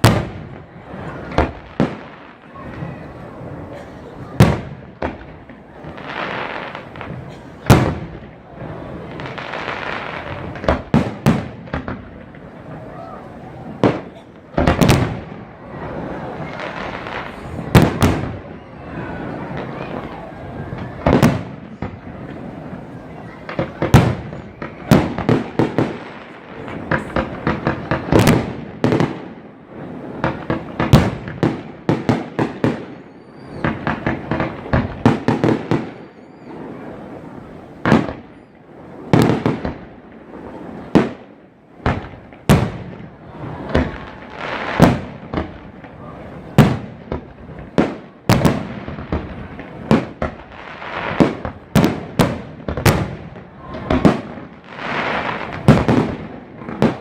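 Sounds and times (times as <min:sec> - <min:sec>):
firework booms: 0:00.0 - 0:57.0.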